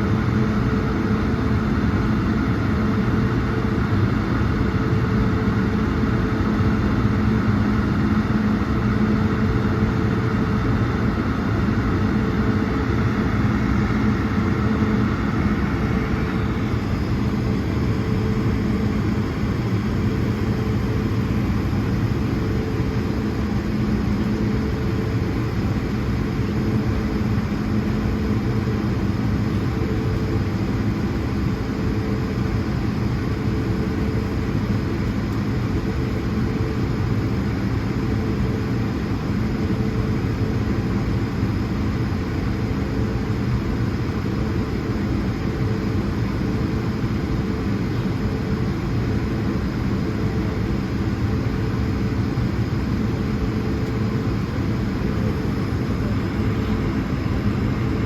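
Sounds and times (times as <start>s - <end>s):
jet engines humming in cabin: 0.0s - 58.0s.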